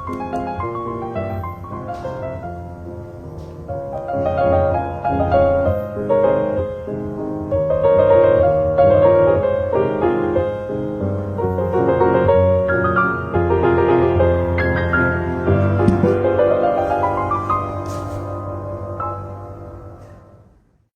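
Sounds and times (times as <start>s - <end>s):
piano background music: 0.0s - 20.6s.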